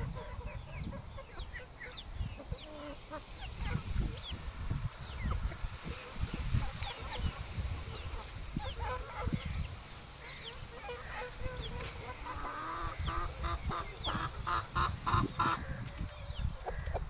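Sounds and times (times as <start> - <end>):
chickens calling harshly: 0.0 - 17.0.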